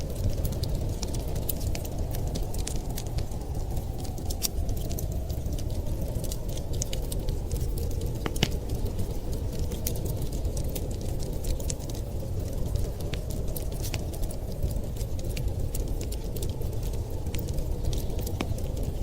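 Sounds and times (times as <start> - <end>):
low rumble of wind: 0.0 - 19.0
wood fire crackling and popping: 0.0 - 19.0.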